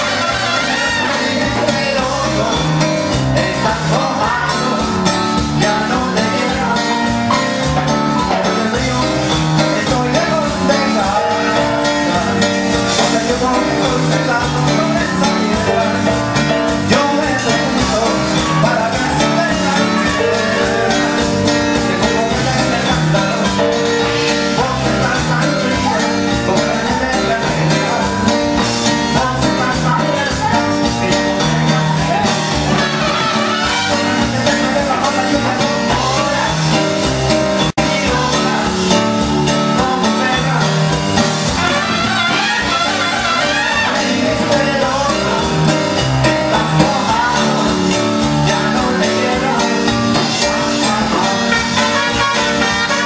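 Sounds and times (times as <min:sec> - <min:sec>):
live cumbia band music: 0:00.0 - 0:53.0.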